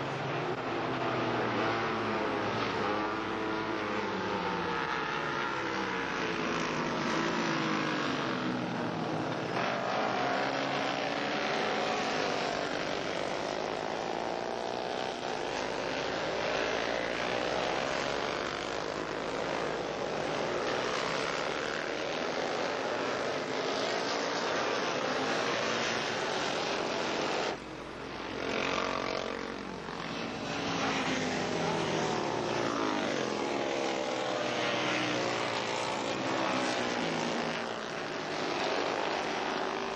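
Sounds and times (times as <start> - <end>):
racing motorcycles passing: 0.0 - 39.9.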